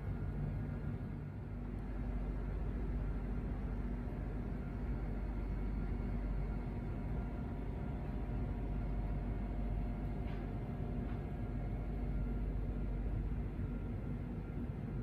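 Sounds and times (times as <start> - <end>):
machinery hum with whining tones: 0.0 - 15.0.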